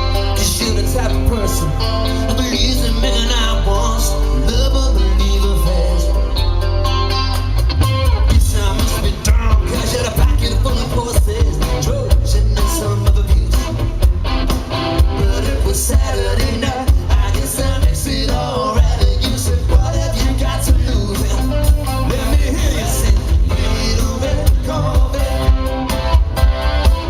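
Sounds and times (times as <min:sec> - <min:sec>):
person singing: 0:00.0 - 0:06.5, 0:08.2 - 0:14.0, 0:15.1 - 0:26.1
drums: 0:00.0 - 0:27.0
live pop-rock band: 0:00.0 - 0:27.0.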